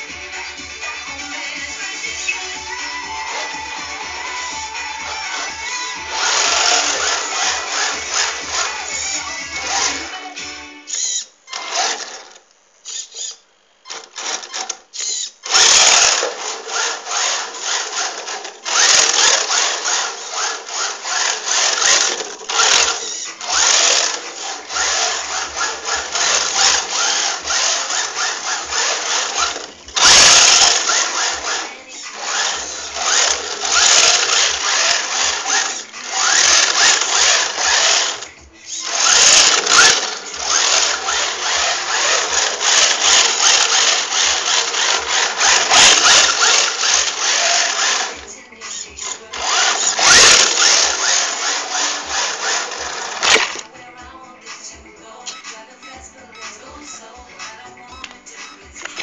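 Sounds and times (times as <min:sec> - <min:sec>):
electric motor whining: 0:02.8 - 0:10.2, 0:10.9 - 0:53.7.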